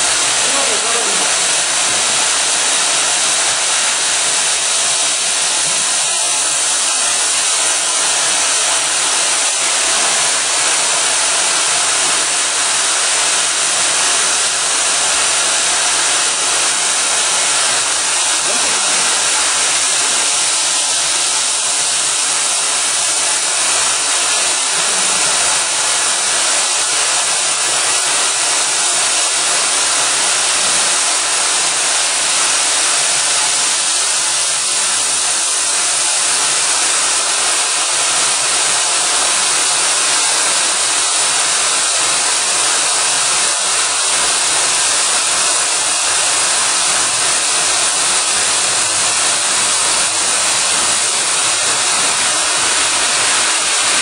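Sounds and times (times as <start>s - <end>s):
steady welding hiss: 0.0s - 54.0s.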